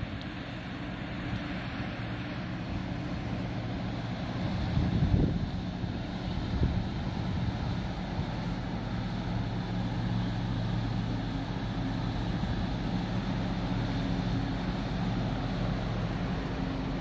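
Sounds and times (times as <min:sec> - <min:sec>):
ship engine drone: 0:00.0 - 0:17.0
water hiss from bow wave: 0:00.0 - 0:17.0
wind: 0:00.0 - 0:17.0.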